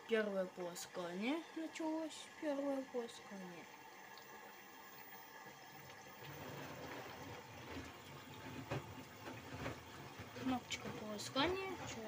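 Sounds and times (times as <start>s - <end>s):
washing machine sloshing: 0.0s - 12.0s
water rushing into drum: 0.0s - 12.0s.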